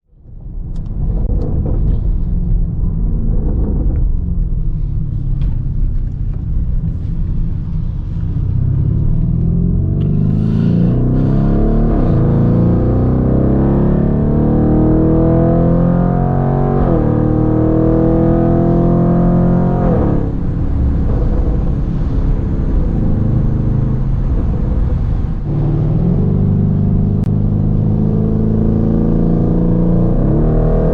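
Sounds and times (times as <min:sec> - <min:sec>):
car engine accelerating hard: 0:01.2 - 0:30.9.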